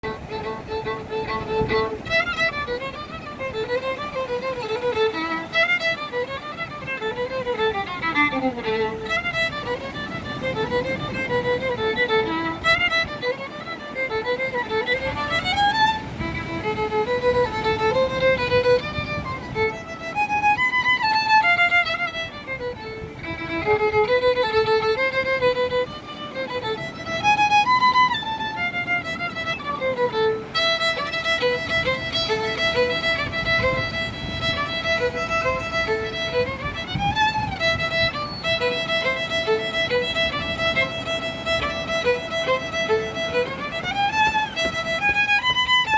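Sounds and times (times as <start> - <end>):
violin slow melody: 0.0 - 45.9.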